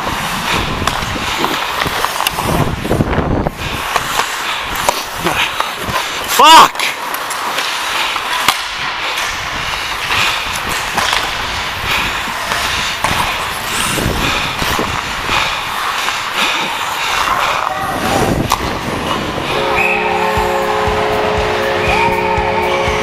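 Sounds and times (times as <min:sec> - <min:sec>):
sticks and puck clacking: 0:00.0 - 0:21.7
skate blades scraping ice: 0:00.0 - 0:21.9.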